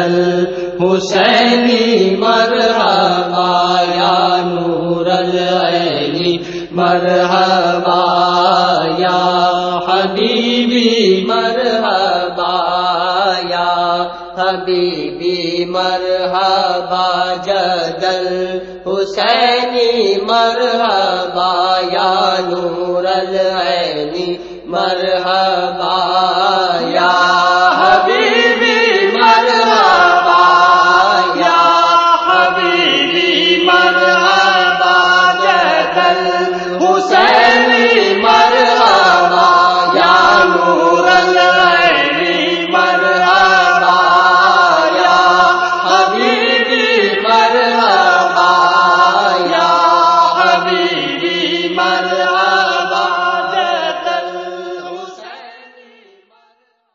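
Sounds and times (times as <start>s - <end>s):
low vocal drone: 0.0s - 55.4s
person chanting melismatically: 0.0s - 56.4s.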